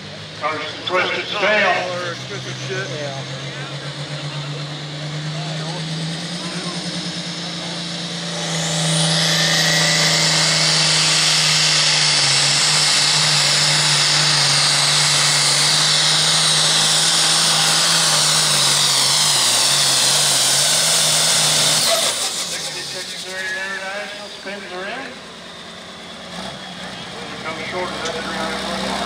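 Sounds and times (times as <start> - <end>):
diesel tractor engine under load: 0.0 - 29.0
high turbo whine: 0.0 - 29.0.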